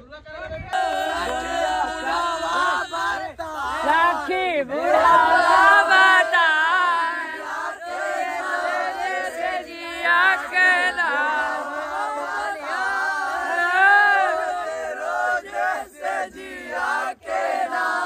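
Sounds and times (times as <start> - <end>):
crowd shouting and chanting: 0.5 - 18.0.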